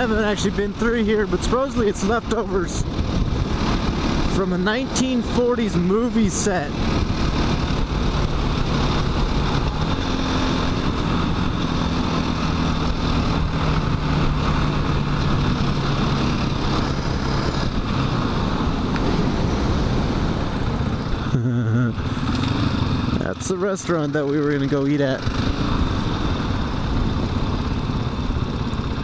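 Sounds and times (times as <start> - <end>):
motorcycle engine cruising: 0.0 - 29.0
wind rushing over microphone: 0.0 - 29.0.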